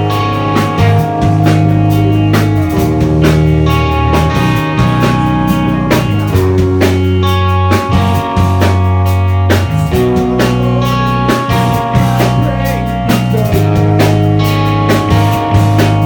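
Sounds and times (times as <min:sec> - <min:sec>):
deep bass notes: 0:00.0 - 0:16.0
guitar chords: 0:00.0 - 0:16.0
steady drum beat: 0:00.0 - 0:16.0.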